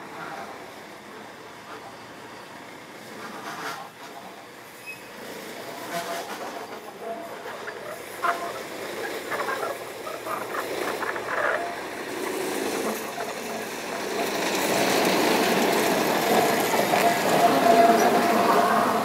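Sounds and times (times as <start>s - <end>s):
railway train running: 0.0s - 19.0s.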